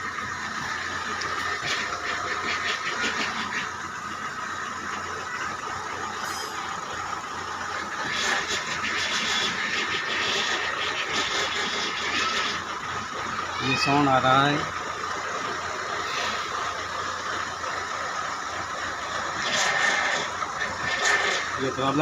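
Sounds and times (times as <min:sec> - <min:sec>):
car engine running: 0:00.0 - 0:22.0
power steering whine: 0:00.0 - 0:22.0.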